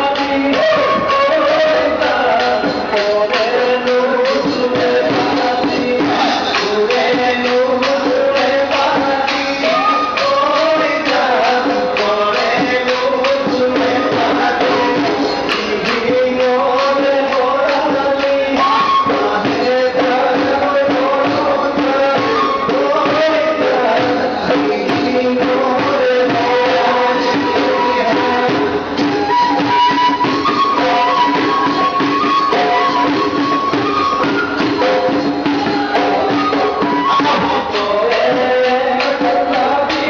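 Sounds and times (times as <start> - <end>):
quick percussion beat: 0.0 - 40.0.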